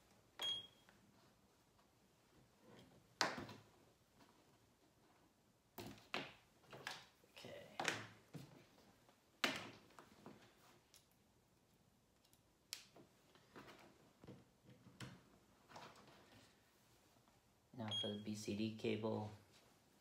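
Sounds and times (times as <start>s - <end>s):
soft cable rustling: 0.0s - 17.7s, 19.2s - 20.0s.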